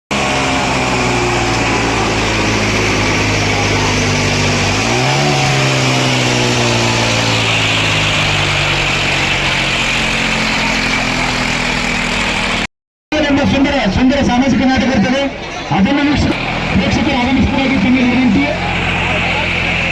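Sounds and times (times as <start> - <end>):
diesel tractor engine running: 0.1 - 19.9.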